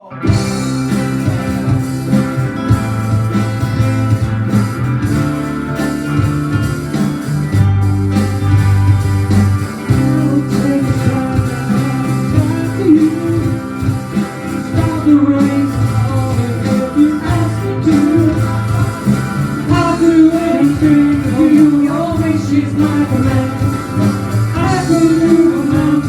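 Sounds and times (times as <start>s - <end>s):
guitar playing: 0.0s - 26.0s
sustained low bass notes: 0.0s - 26.0s.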